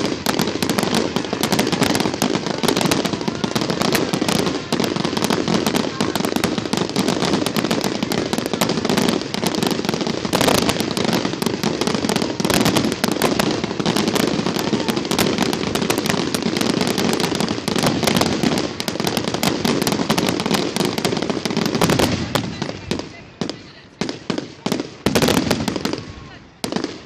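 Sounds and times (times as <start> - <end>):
fireworks crackling and popping: 0.0 - 27.0.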